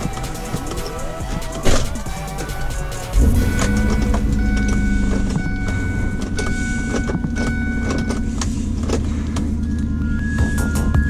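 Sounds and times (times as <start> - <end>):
music playing: 0.0 - 8.2, 9.5 - 11.0
car engine idling: 0.0 - 11.0.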